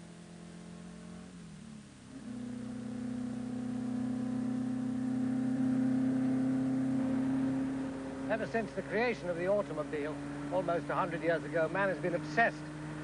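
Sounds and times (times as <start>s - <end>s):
car engine approaching: 0.0s - 13.0s
faint engine dropping in pitch: 0.0s - 13.0s.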